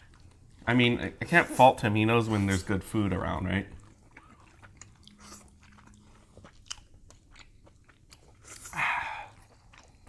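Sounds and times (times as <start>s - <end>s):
chewing: 0.0s - 1.1s, 2.2s - 10.0s.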